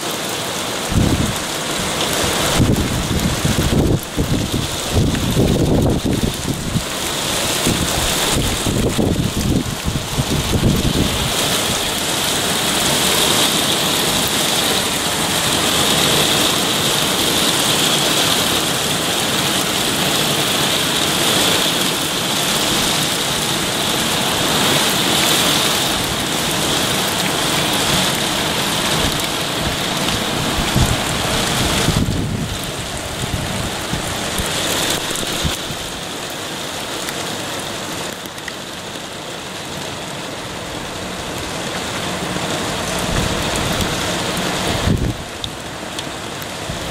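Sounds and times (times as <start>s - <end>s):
heavy rain on shrubs and roof: 0.0s - 46.9s.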